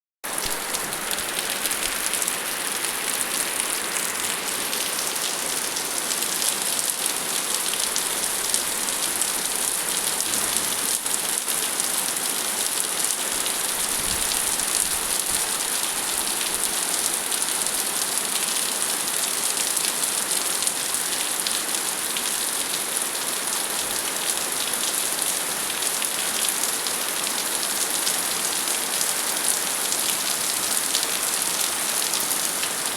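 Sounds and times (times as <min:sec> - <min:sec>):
steady rain falling: 0:00.2 - 0:32.9.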